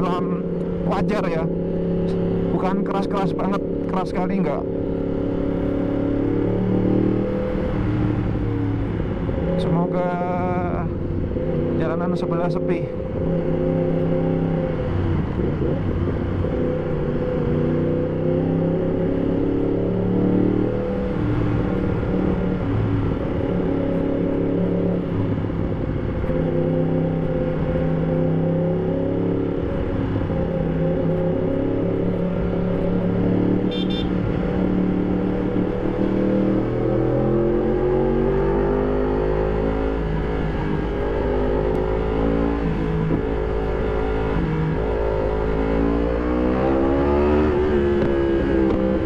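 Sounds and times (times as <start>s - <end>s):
motorcycle engine under riding: 0.0s - 49.0s.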